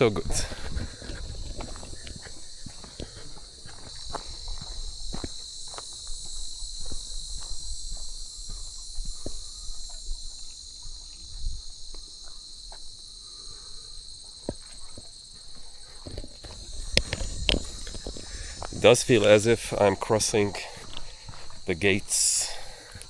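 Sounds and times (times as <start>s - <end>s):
insects buzzing: 0.0s - 23.0s
soft footsteps on trail: 0.0s - 23.0s.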